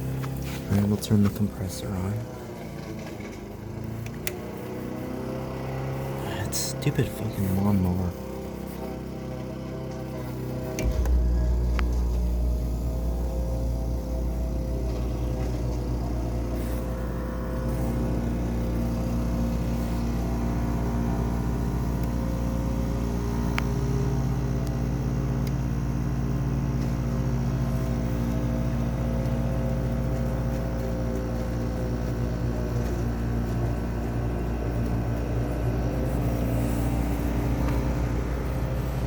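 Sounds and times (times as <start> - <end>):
lawnmower engine running: 0.0 - 39.0.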